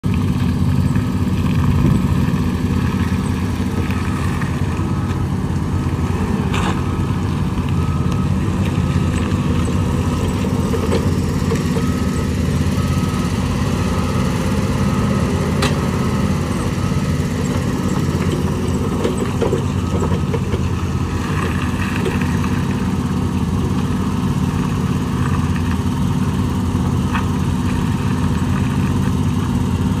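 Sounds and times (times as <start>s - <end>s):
forklift engine running: 0.0s - 30.0s.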